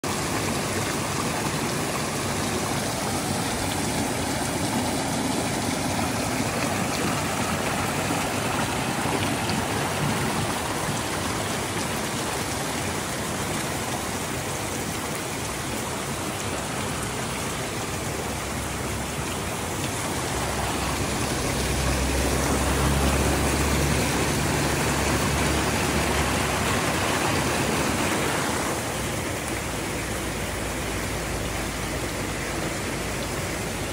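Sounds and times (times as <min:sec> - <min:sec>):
stream rushing down stone channel: 0:00.0 - 0:33.9.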